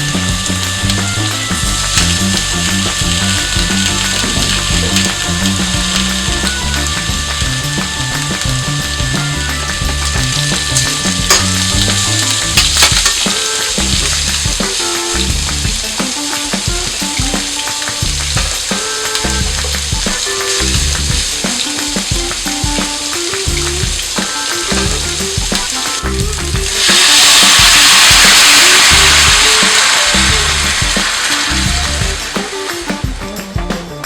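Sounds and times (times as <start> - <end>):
meat sizzling in hot oil: 0.0 - 33.2.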